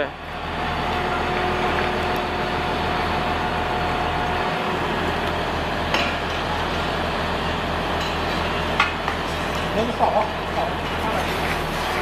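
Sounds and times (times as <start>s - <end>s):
machine pulsing hum: 0.0s - 12.0s.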